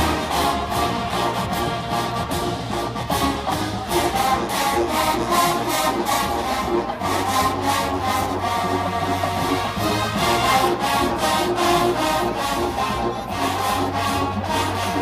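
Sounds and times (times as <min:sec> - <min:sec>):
drumline steady beat: 0:00.0 - 0:15.0
marching band brass chords: 0:00.0 - 0:15.0.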